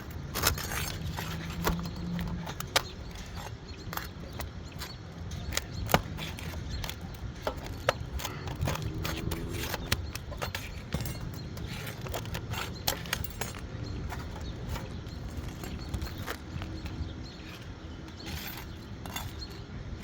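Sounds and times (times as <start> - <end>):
knocks and scrapes on shingle roof: 0.0 - 20.0.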